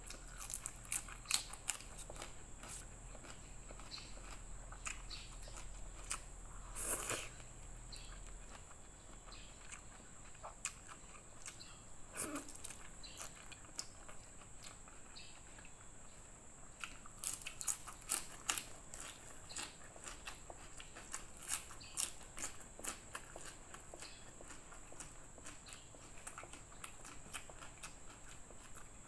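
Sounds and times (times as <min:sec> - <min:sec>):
chewing noodles: 0:00.0 - 0:16.0, 0:16.7 - 0:29.0
crunching leafy greens: 0:00.0 - 0:16.0, 0:16.7 - 0:29.0.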